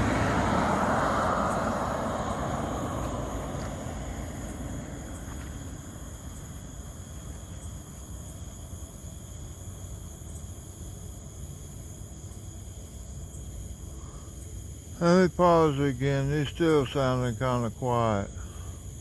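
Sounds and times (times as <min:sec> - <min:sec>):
distant train rumble: 0:00.0 - 0:11.5, 0:12.7 - 0:19.0
insects trilling: 0:00.0 - 0:19.0.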